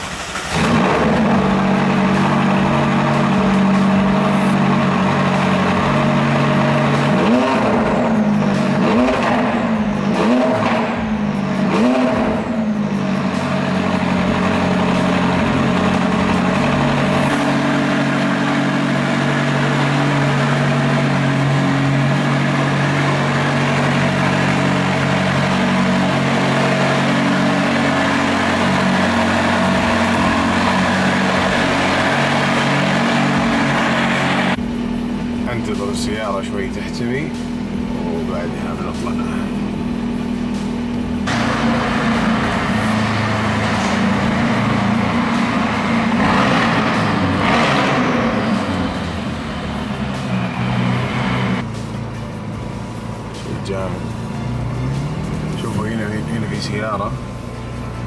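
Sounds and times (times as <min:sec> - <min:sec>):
car engine idling with throttle blips: 0:00.0 - 0:58.0.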